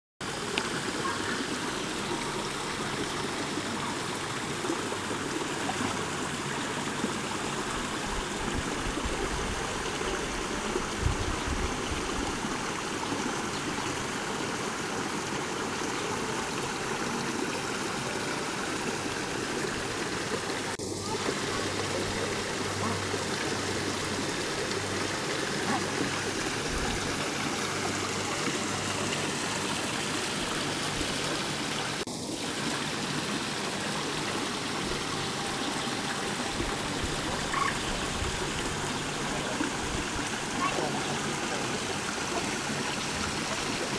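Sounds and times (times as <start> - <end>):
waterfall splashing over rocks: 0.2 - 43.9.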